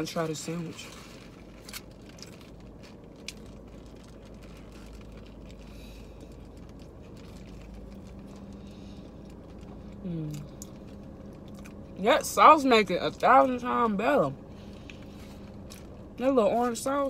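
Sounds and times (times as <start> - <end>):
low hum inside car: 0.0 - 17.0
soft chewing: 0.7 - 12.0, 14.4 - 16.8.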